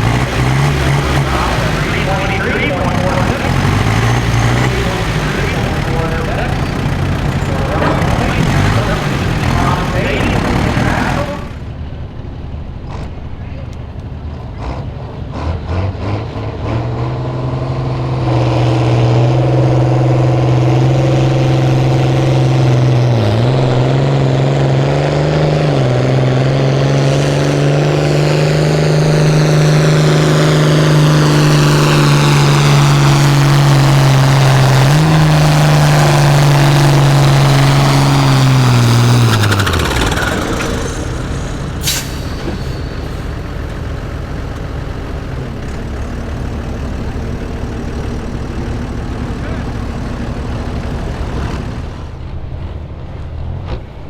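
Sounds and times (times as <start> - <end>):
tractor engine at full throttle: 0.0 - 54.0.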